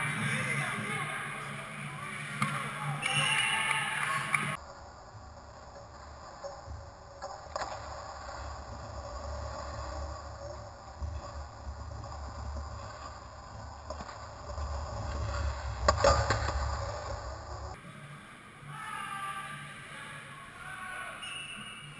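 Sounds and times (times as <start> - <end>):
low rink rumble: 0.0 - 21.9.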